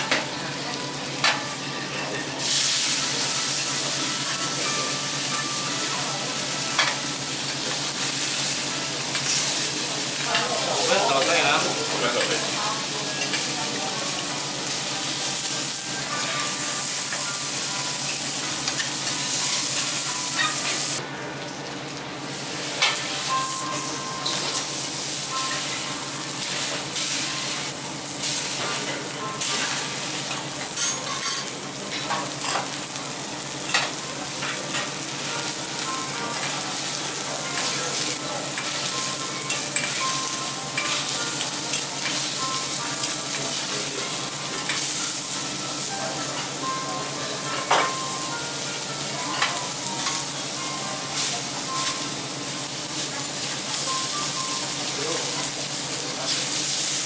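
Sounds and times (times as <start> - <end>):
food sizzling on a griddle: 0.0 - 21.0, 21.9 - 57.0.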